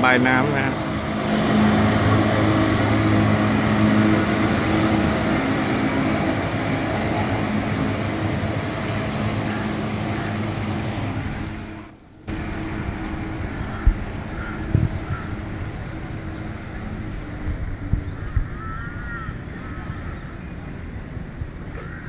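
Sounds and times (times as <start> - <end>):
churning water wash: 0.0 - 22.0
outboard motor humming: 0.0 - 22.0.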